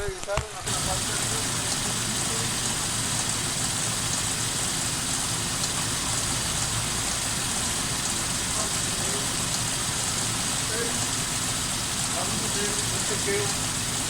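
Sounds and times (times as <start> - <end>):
constant hiss: 0.0 - 14.0
car engine idling: 0.7 - 14.0.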